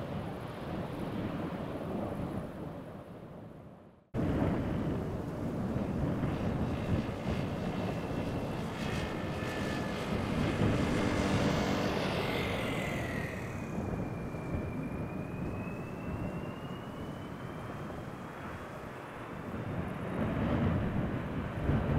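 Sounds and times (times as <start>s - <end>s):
jet airliner engines rumbling: 4.2s - 21.9s
jet engine high whine: 4.2s - 21.9s.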